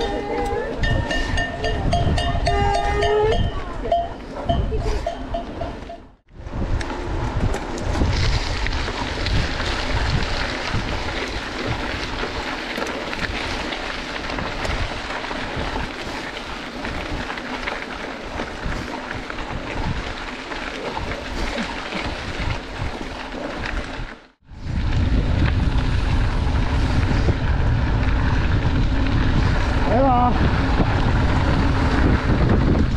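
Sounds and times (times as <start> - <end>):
wind buffeting microphone: 0.0 - 32.9
bike tyres rolling on gravel: 5.3 - 32.9.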